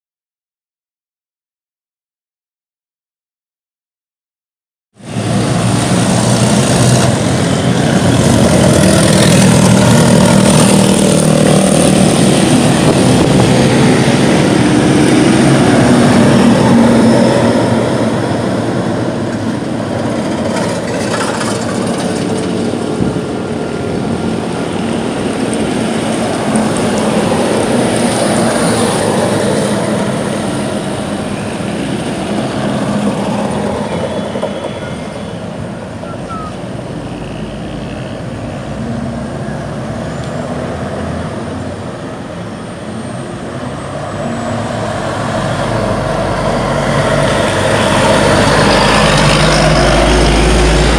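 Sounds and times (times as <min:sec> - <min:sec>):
motorcycles and trucks passing: 0:05.0 - 0:50.9.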